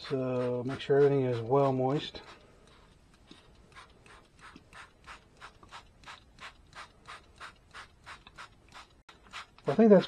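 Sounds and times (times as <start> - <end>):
spray bottle spritzing water: 0.0 - 9.8.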